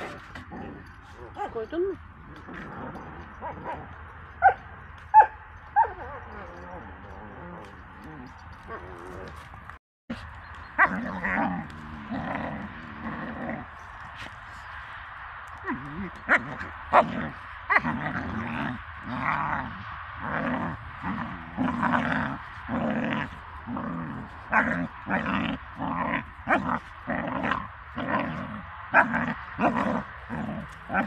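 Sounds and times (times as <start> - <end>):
dog growling: 0.0 - 4.0, 5.8 - 9.7, 10.8 - 14.4, 15.6 - 31.0.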